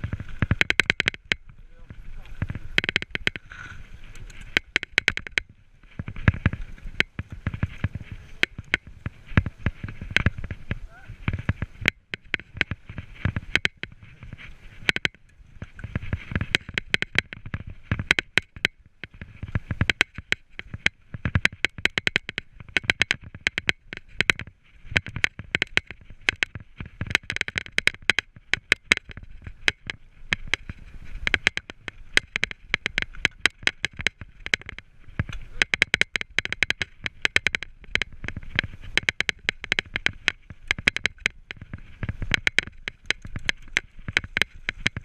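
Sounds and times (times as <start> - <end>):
mountain bike rattling: 0.0 - 45.0.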